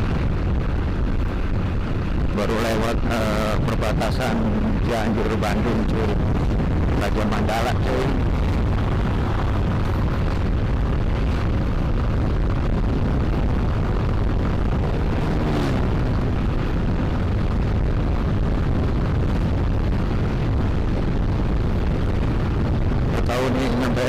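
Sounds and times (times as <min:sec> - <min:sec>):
scooter engine and road noise: 0:00.0 - 0:24.0
wind buffeting microphone: 0:00.0 - 0:24.0.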